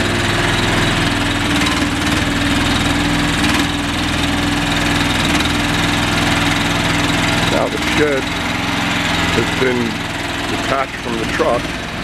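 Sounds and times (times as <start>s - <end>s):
buggy engine running: 0.0s - 12.0s.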